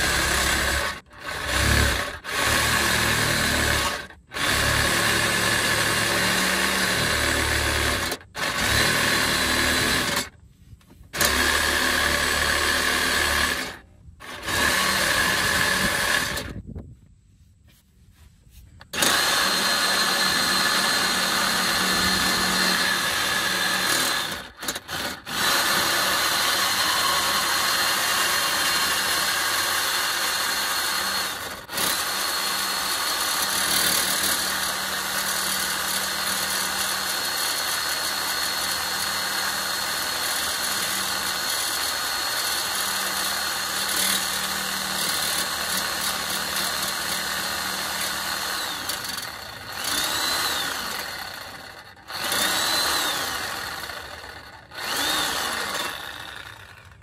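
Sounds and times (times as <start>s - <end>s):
reciprocating saw cutting metal pipe: 0.0s - 10.4s, 11.2s - 16.6s, 18.9s - 57.0s.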